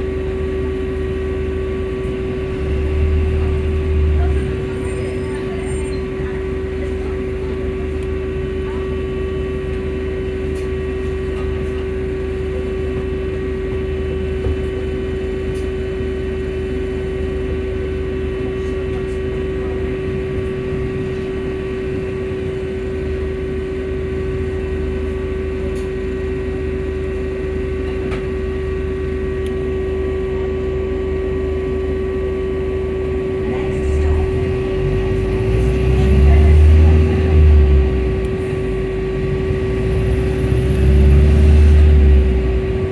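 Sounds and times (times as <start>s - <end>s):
bus engine humming: 0.0s - 30.2s, 32.4s - 42.9s.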